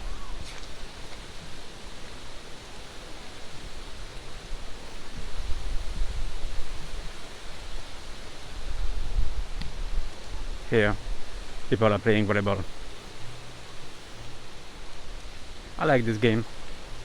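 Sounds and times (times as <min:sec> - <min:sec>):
wind and surf hiss: 0:00.0 - 0:17.0
wind buffeting microphone: 0:00.0 - 0:17.0.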